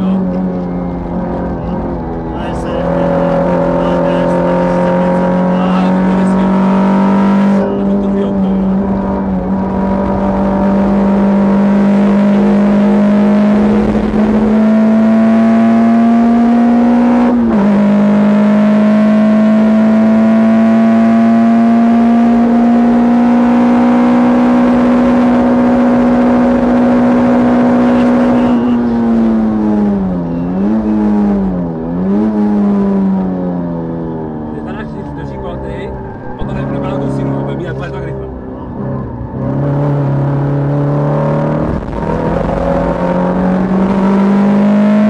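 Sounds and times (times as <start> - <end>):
car engine revving from inside cabin: 0.0 - 33.8, 35.9 - 45.0.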